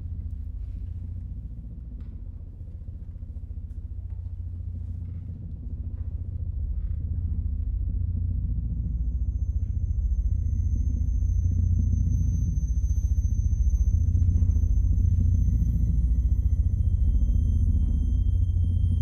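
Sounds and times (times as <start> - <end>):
low pulsing rumbling drone: 0.0 - 19.0.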